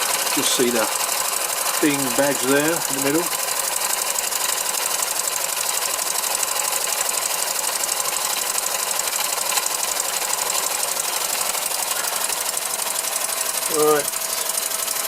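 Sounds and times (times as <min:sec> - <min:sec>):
small engine mechanical clatter: 0:00.0 - 0:15.0.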